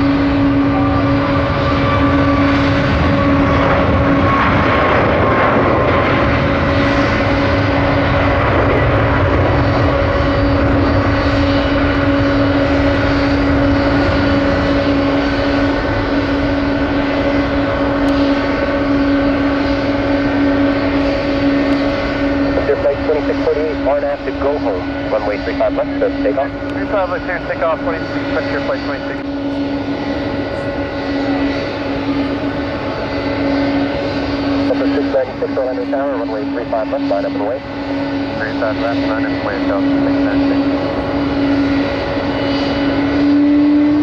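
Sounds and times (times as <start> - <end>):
jet engines running: 0.0 - 44.0.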